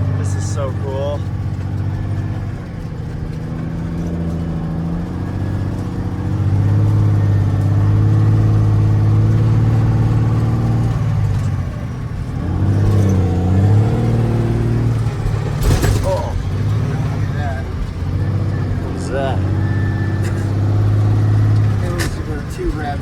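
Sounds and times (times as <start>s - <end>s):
truck engine pulling under load: 0.0s - 23.0s.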